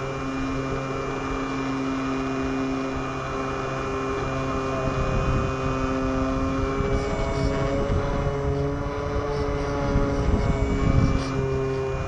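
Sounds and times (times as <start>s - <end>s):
model plane motor droning: 0.0s - 12.0s
wind rush on microphone: 0.0s - 12.0s.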